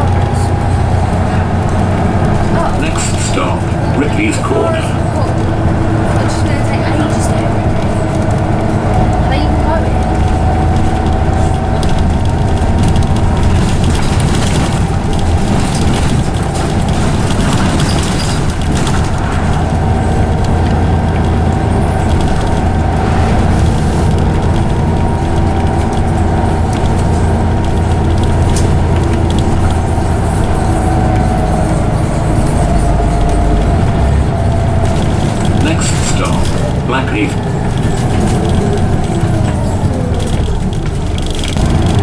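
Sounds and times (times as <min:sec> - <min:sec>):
bus engine rumble: 0:00.0 - 0:42.0
gearbox whine: 0:00.0 - 0:42.0.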